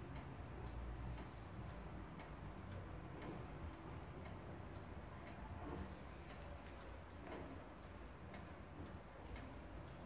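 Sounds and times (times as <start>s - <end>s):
pendulum wall clock ticking: 0.0s - 10.0s.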